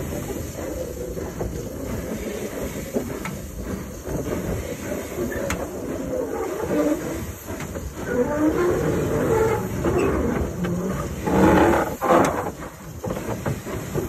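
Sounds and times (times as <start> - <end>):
steam hissing: 0.0 - 14.0
steam locomotive running slowly: 0.0 - 14.0.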